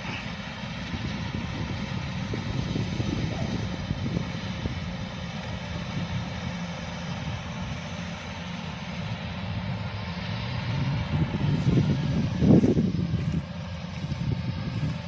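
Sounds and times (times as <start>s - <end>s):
diesel engine drone: 0.0s - 15.0s
threshing machinery whine: 0.0s - 15.0s.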